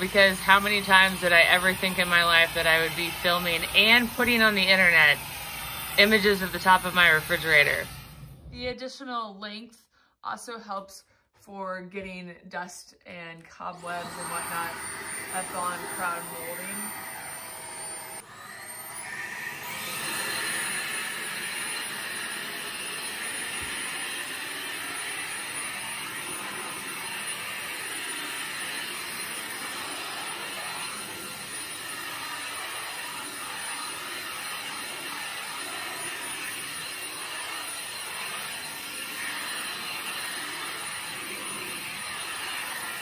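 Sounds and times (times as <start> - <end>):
stick vacuum motor whining: 0.0 - 8.6, 13.7 - 43.0.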